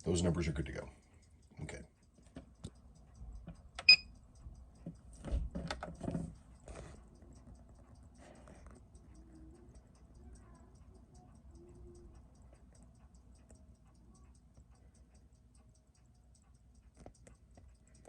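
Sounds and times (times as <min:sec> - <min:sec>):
watch ticking: 0:00.0 - 0:18.0.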